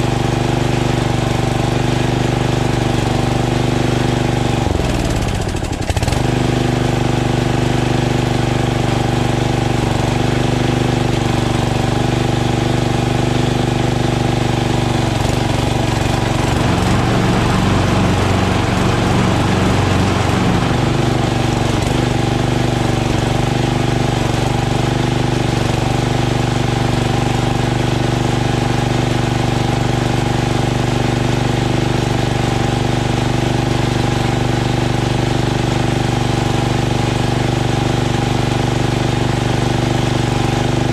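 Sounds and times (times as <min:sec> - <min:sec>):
lawn tractor engine running: 0:00.0 - 0:40.9.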